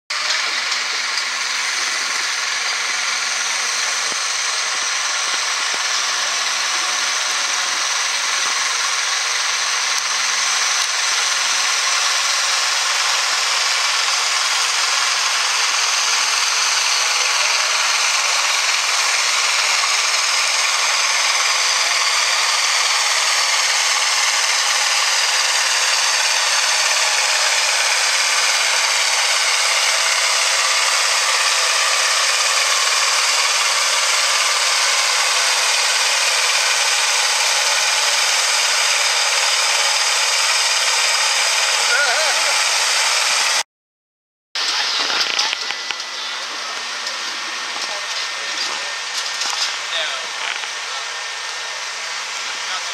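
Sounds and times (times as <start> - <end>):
tractor diesel engine under load: 0.0 - 43.6, 44.6 - 52.9.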